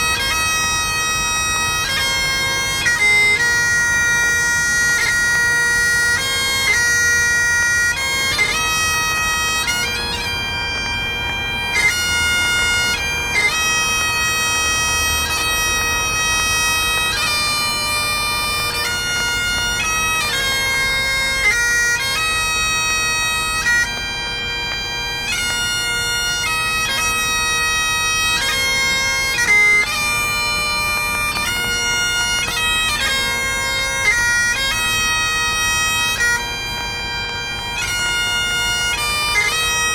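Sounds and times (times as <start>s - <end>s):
bagpipes playing slow melody: 0.0s - 39.9s.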